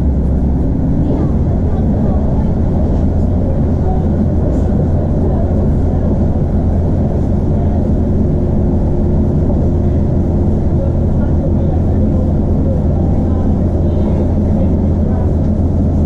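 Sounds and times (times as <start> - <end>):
train engine and wheels rumbling: 0.0 - 16.0.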